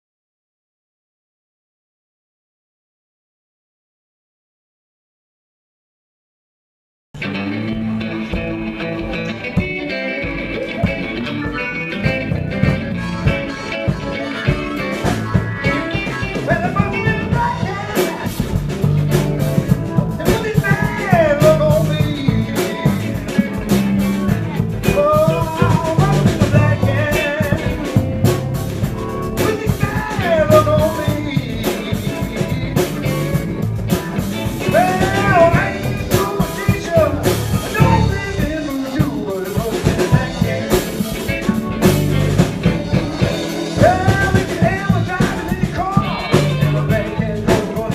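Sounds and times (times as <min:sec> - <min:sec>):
bass guitar: 0:07.2 - 0:47.9
drum kit: 0:07.2 - 0:47.9
electric guitar: 0:07.2 - 0:47.9.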